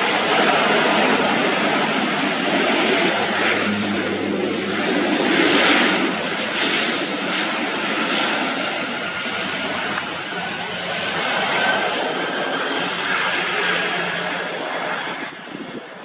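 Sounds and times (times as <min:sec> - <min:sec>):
airliner engines roaring: 0:00.0 - 0:16.0.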